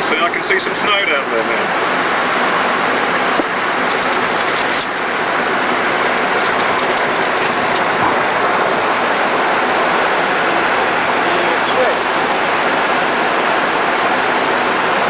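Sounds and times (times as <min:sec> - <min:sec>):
jet engines: 0:00.0 - 0:15.0
aircraft cockpit airflow rushing: 0:01.7 - 0:15.0.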